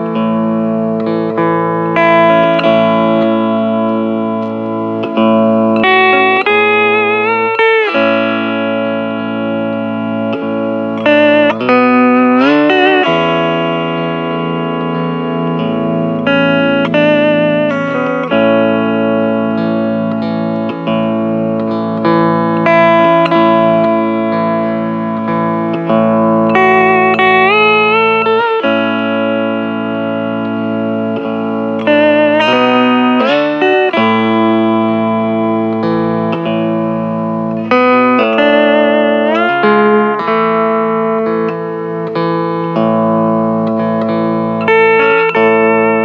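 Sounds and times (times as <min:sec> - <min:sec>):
steel guitar slow melody: 0:00.0 - 0:46.0.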